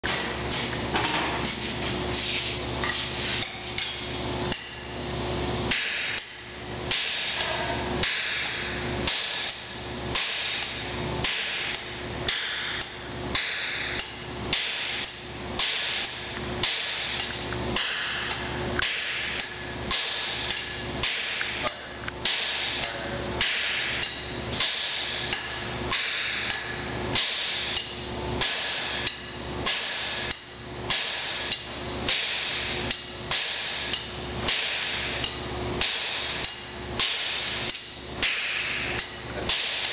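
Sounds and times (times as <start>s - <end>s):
hammers striking an anvil: 5.7s - 39.9s.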